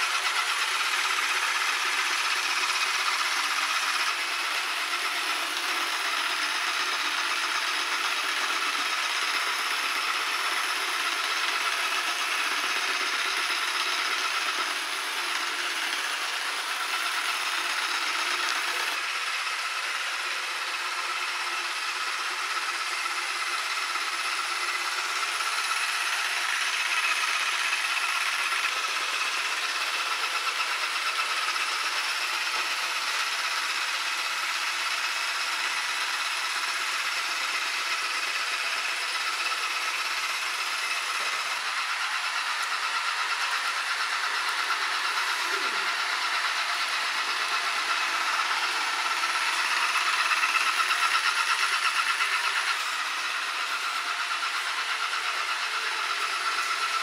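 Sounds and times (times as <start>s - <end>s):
robot vacuum motor whirring: 0.0s - 57.0s.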